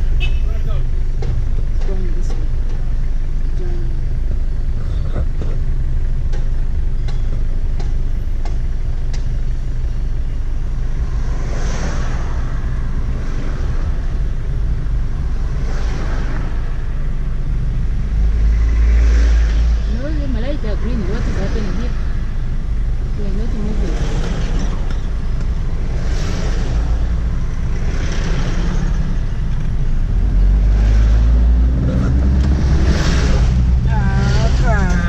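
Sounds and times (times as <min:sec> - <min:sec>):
car engine and tyres rumbling: 0:00.0 - 0:35.0
minibus passing rumble: 0:00.0 - 0:35.0
oncoming vehicles passing: 0:00.0 - 0:35.0.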